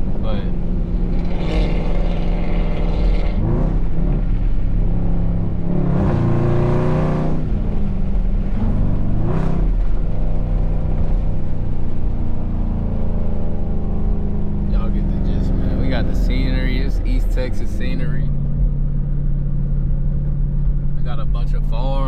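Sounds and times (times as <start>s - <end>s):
car engine droning: 0.0s - 22.0s
cars revving and passing: 0.0s - 22.0s.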